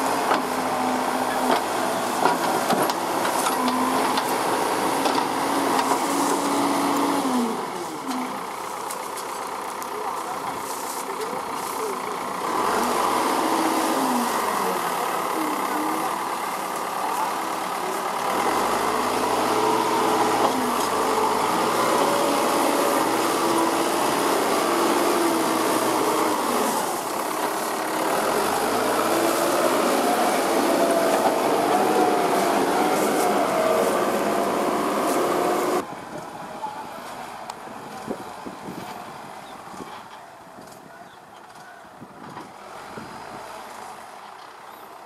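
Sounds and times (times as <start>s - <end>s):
diesel engine running: 0.0s - 40.8s.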